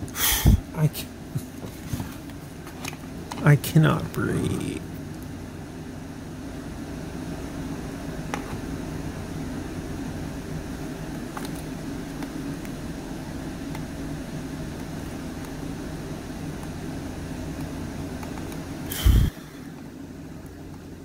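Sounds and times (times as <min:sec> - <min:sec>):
mechanical whirring hum: 0:00.0 - 0:21.0.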